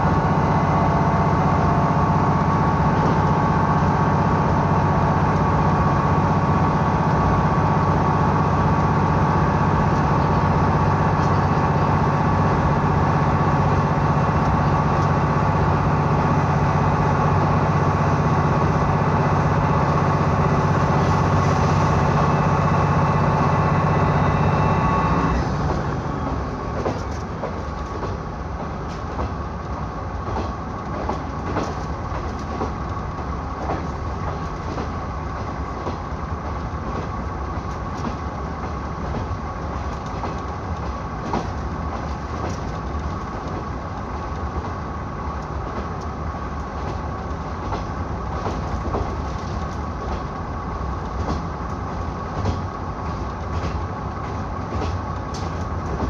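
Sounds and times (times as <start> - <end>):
diesel engine drone: 0.0 - 56.0
rail joint clicks: 0.0 - 56.0
train wheels rumbling on rails: 0.0 - 56.0.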